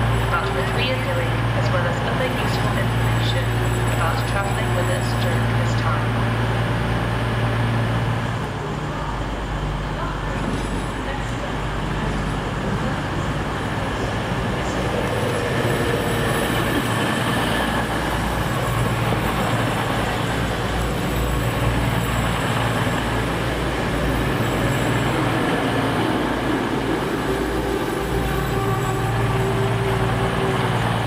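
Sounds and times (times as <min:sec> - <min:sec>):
train engine hum: 0:00.0 - 0:31.0.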